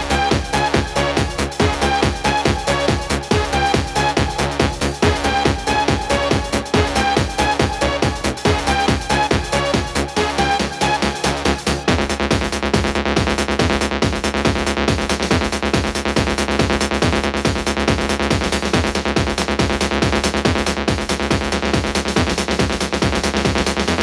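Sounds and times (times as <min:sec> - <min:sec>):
techno trance dance music: 0:00.0 - 0:24.0.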